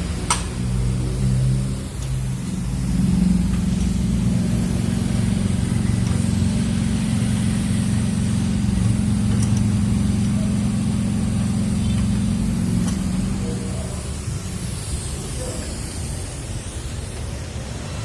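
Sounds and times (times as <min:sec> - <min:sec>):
car engine running steadily: 0:00.0 - 0:15.5.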